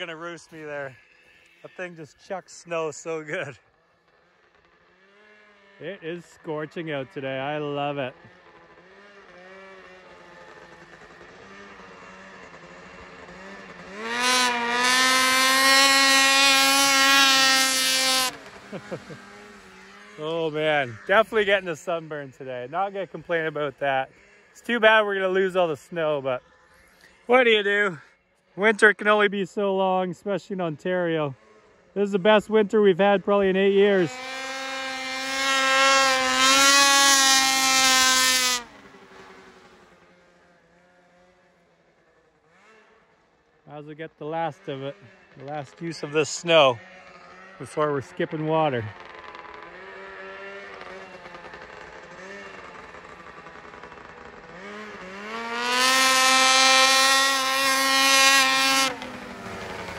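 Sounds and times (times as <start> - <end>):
snowmobile engine revving: 0.0 - 41.4, 43.7 - 59.9.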